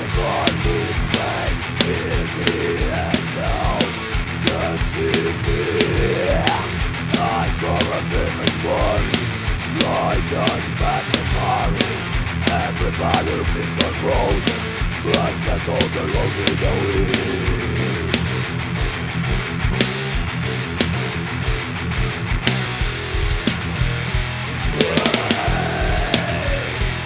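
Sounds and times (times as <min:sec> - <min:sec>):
fast drum hits: 0:00.0 - 0:20.4, 0:24.7 - 0:27.0
distorted guitars and bass: 0:00.0 - 0:27.0
melodic guitar line bending: 0:00.0 - 0:27.0.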